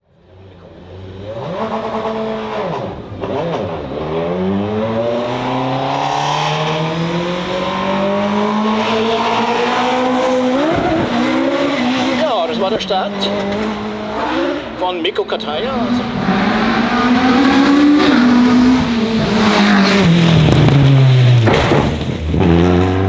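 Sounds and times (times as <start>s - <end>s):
race car engine accelerating: 0.3s - 23.0s.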